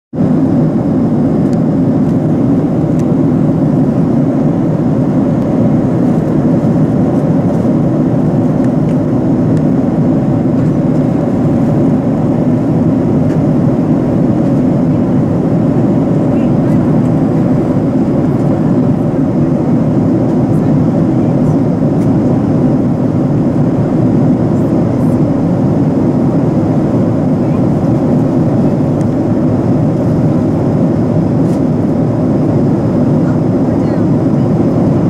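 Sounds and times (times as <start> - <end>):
airliner cabin rumble: 0.1 - 35.0.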